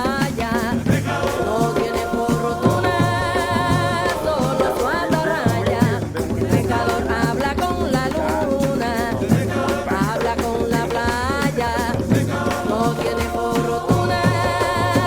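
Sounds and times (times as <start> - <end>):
latin song with singing: 0.0 - 15.0.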